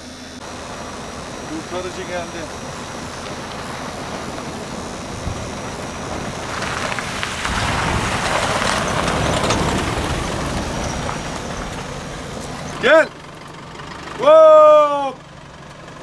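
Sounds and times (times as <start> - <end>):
truck engine running: 0.0 - 16.0
tyres crunching over gravel: 0.5 - 14.2.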